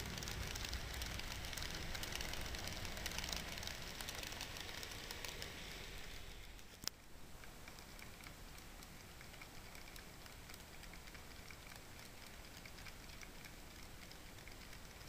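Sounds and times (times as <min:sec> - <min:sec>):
model train wheels ticking on rails: 0:00.0 - 0:15.0.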